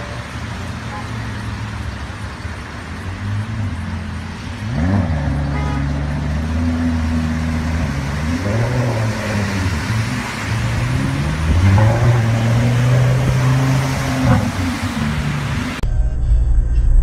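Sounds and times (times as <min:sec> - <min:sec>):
car engine revving: 0:00.0 - 0:15.8
rushing water: 0:00.0 - 0:15.8.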